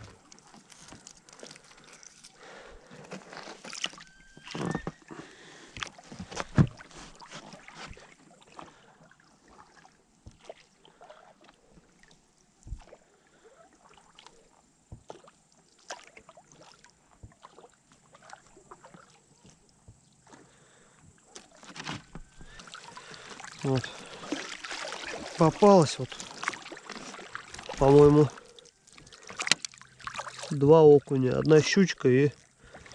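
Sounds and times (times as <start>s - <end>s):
light water sounds: 0.0s - 32.9s.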